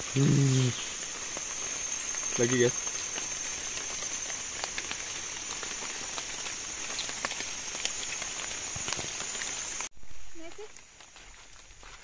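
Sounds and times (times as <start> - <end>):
high-pitched insect drone: 0.0 - 9.9
even hiss: 0.0 - 11.0.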